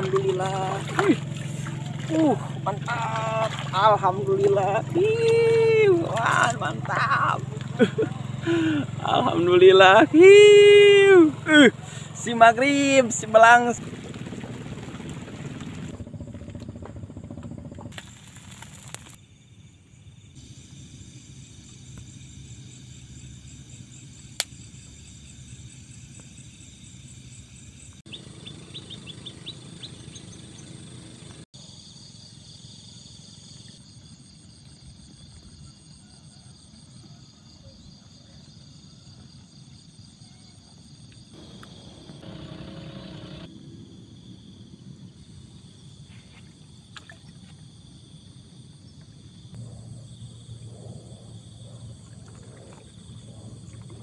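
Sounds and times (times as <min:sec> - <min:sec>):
insect calls: 0:00.0 - 0:54.0.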